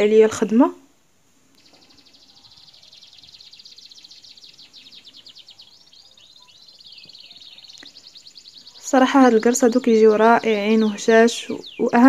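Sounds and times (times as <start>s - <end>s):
bird singing fast high trill: 1.6s - 12.0s.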